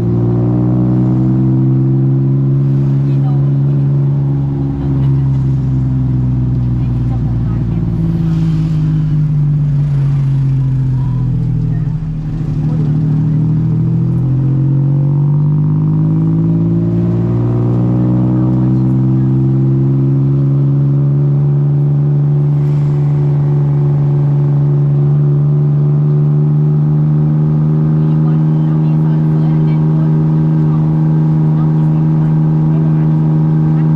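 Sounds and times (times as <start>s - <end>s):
vehicle engine revving: 0.0s - 33.9s.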